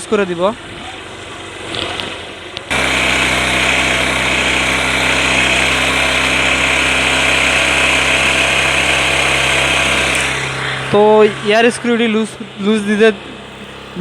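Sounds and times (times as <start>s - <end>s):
motorcycle engine idling: 0.3s - 14.0s.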